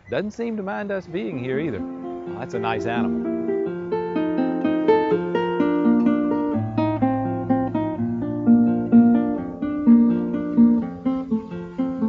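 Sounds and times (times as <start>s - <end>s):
acoustic guitar picking notes: 1.0s - 12.0s.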